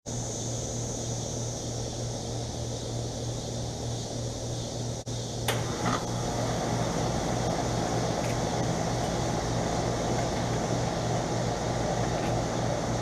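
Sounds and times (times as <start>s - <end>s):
fan air noise: 0.0s - 13.0s
air conditioner compressor hum: 0.1s - 13.0s.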